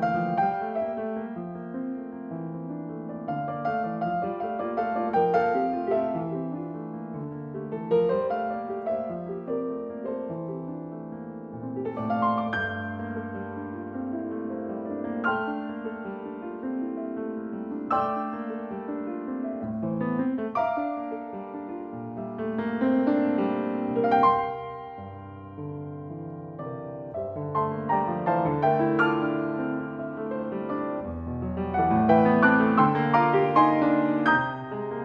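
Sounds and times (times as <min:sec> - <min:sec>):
solo piano toccata: 0:00.0 - 0:35.0.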